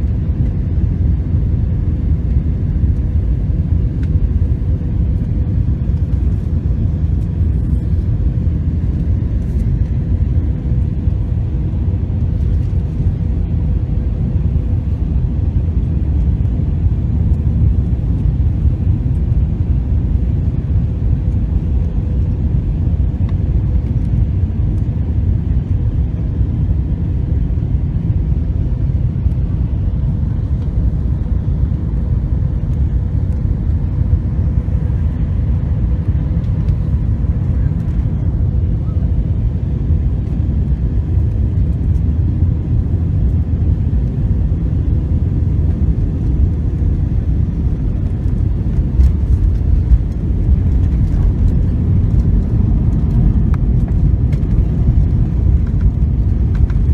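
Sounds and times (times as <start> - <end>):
airliner engine rumble in cabin: 0.0 - 56.9.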